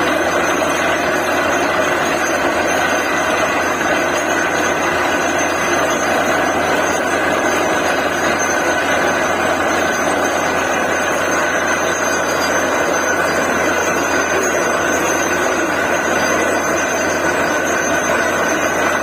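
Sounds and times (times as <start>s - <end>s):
drilling rig running: 0.0s - 19.0s
high machine whine: 0.0s - 19.0s.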